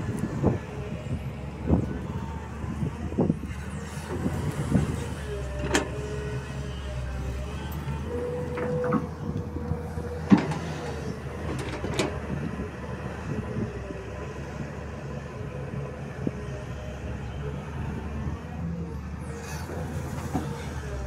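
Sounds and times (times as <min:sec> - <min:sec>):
excavator diesel engine under load: 0:00.0 - 0:21.0.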